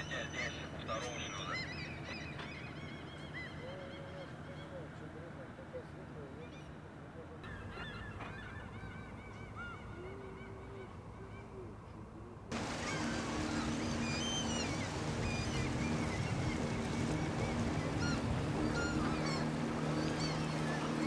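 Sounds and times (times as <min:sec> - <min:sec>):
gulls calling: 0:00.0 - 0:21.0
low engine hum: 0:00.0 - 0:21.0.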